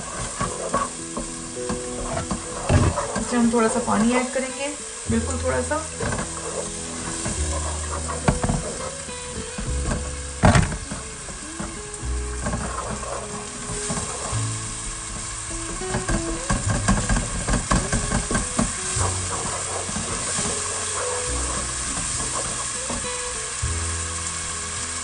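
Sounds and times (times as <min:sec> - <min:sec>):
wooden spatula scraping pot: 0:00.0 - 0:23.6
spices sizzling in a pot: 0:00.0 - 0:25.0.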